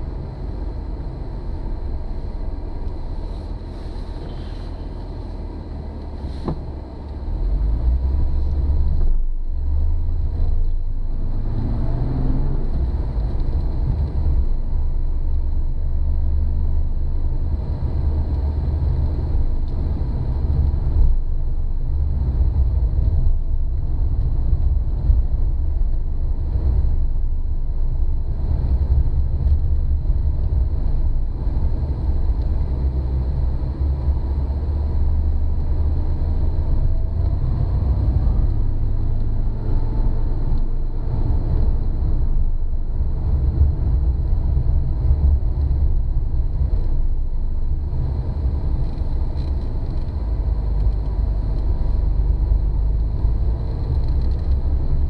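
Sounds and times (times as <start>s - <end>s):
car engine drone inside cabin: 0.0s - 55.0s.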